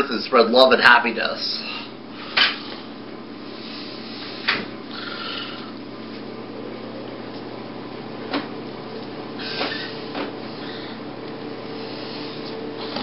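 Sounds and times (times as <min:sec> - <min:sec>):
room noise hiss and hum: 0:00.0 - 0:13.0.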